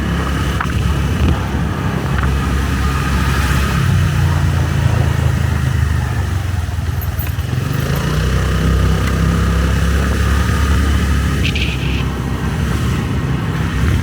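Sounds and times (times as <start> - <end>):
motorcycle engine running: 0.0 - 14.0
road and wind noise: 0.0 - 14.0.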